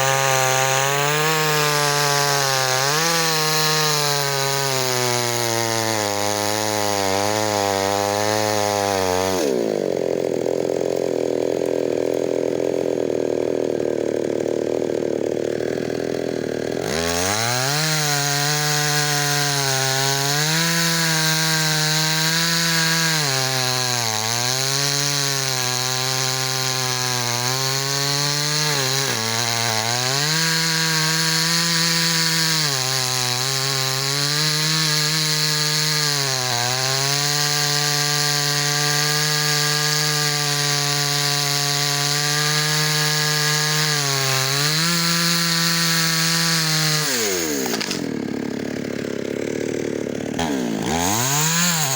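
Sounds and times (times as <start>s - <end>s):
chainsaw cutting wood: 0.0s - 51.9s
chainsaw idling: 0.0s - 51.9s.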